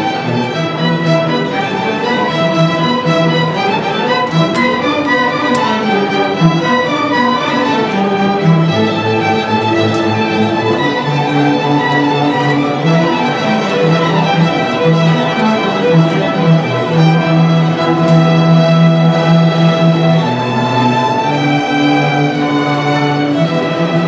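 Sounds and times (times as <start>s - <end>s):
orchestra bowed strings: 0.0s - 24.0s.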